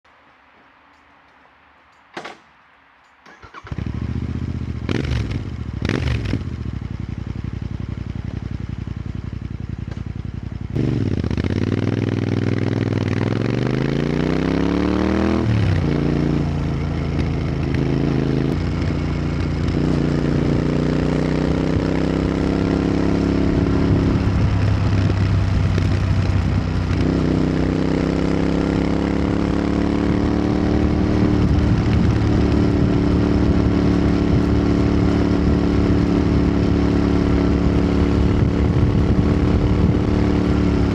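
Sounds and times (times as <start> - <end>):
motorcycle engine starting: 3.2 - 40.9
motorcycle engine idling and revving: 3.3 - 40.9.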